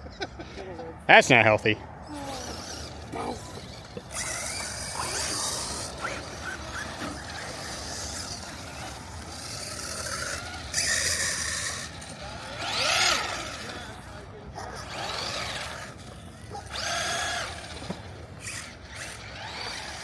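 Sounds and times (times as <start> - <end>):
toy truck electric motor whirring: 2.0 - 20.0.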